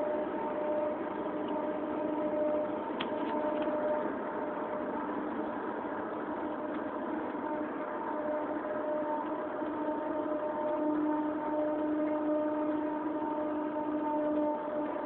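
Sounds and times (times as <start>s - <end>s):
droning hum in the sky: 0.0s - 15.0s.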